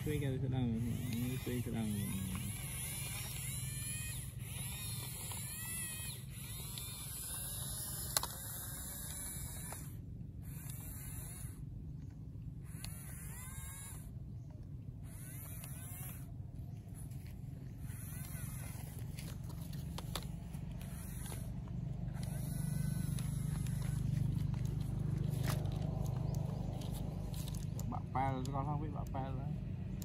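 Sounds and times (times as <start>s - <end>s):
toy electric motors buzzing: 0.0s - 30.0s.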